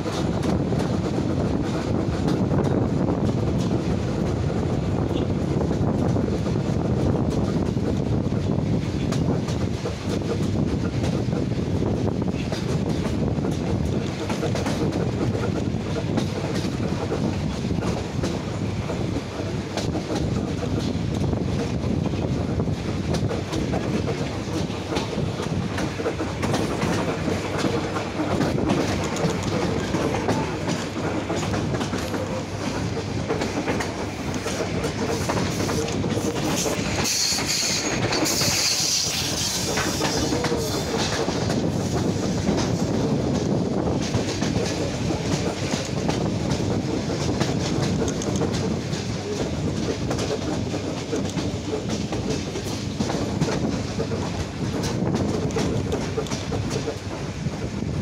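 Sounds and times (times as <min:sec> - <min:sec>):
train wheels clattering over joints: 0:00.0 - 0:58.0.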